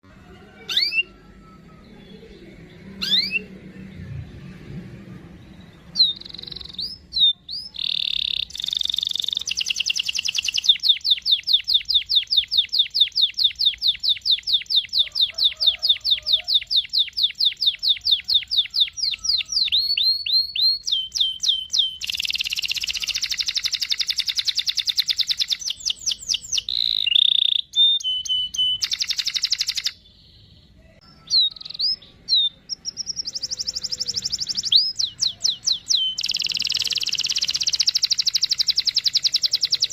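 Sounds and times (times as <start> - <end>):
canary singing trills: 0.0 - 4.6, 5.2 - 39.9.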